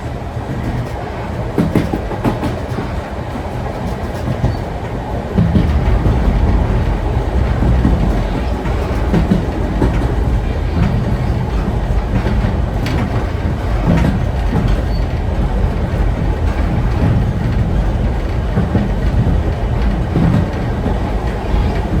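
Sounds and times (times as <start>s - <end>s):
rail joint clicks: 0.0s - 22.0s
train wheels rumbling on rails: 0.0s - 22.0s.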